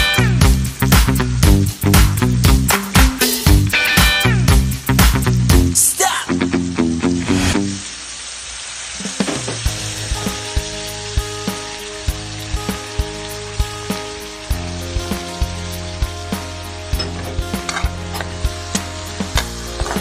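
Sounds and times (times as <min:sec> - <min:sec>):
meat and vegetables sizzling in a pan: 0:00.0 - 0:20.0.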